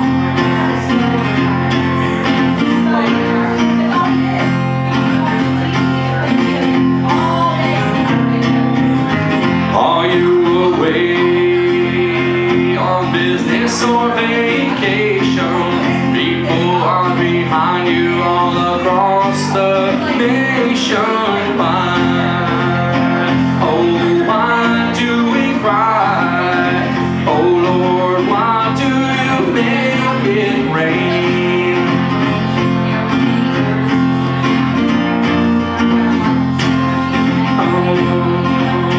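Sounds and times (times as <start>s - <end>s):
acoustic guitar strumming: 0.0s - 38.9s
man singing into microphone: 0.0s - 38.9s.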